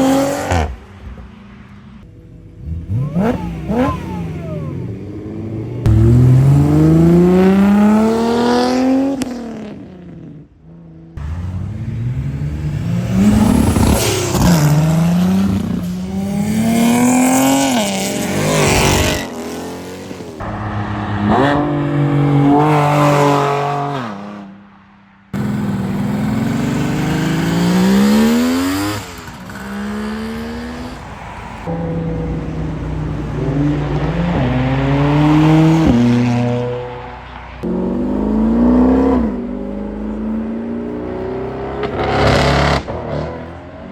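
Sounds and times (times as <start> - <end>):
car engine accelerating hard: 2.1 - 10.4, 11.2 - 24.5, 25.4 - 43.9.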